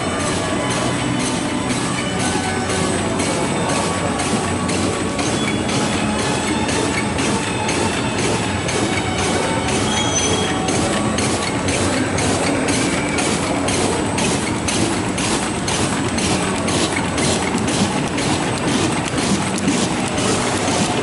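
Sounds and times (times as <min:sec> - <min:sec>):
machine rumbling with regular strokes: 0:00.0 - 0:21.0.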